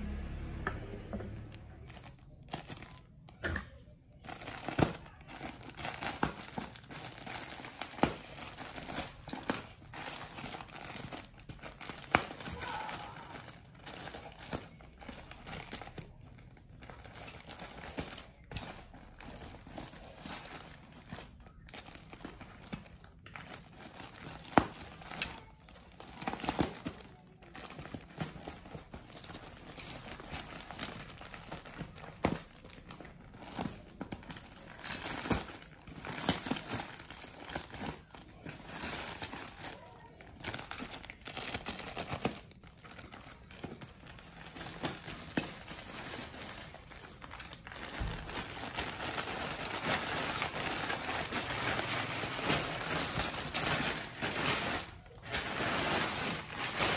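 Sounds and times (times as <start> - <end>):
plastic wrapping crinkling: 1.4 - 56.9.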